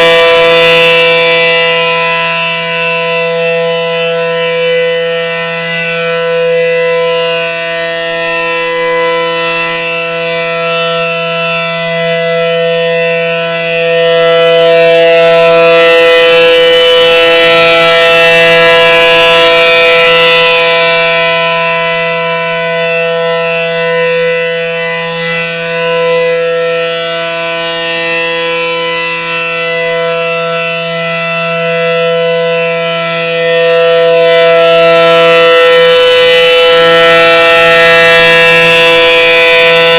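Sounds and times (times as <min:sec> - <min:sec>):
steady siren alert tone: 0:00.0 - 0:39.9.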